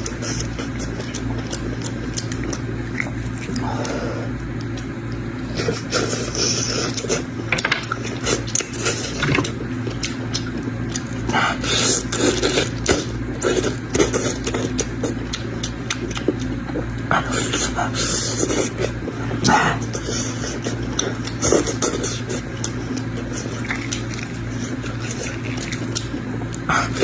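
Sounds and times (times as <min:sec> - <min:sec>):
chewing and lip-smacking: 0:00.0 - 0:27.0
steady low hum: 0:00.0 - 0:27.0.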